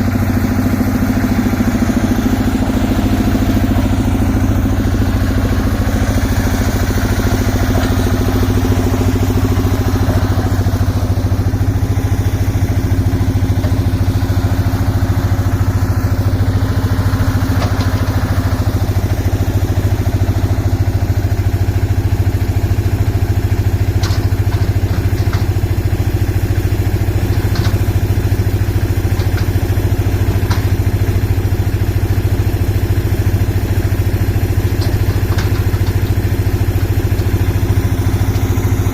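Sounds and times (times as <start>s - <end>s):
concrete mixer engine humming: 0.0s - 38.9s.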